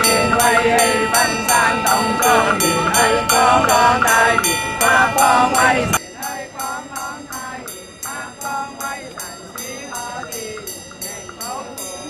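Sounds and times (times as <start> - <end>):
music with singing: 0.0 - 12.0.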